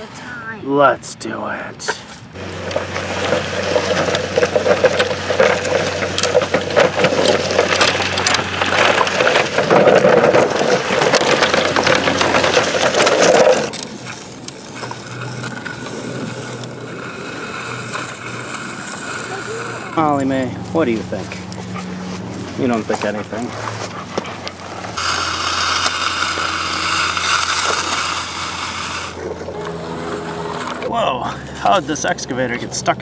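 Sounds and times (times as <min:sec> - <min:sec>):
digging in dirt and sand: 0:01.8 - 0:32.7.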